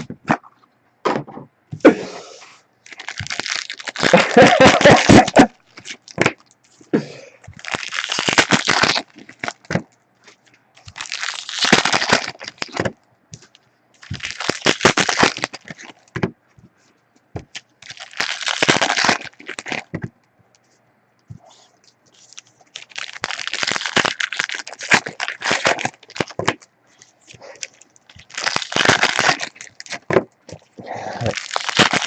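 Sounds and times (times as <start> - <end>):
foil wrappers crinkling: 2.8 - 6.8, 7.4 - 16.2, 17.4 - 20.0, 21.5 - 32.0.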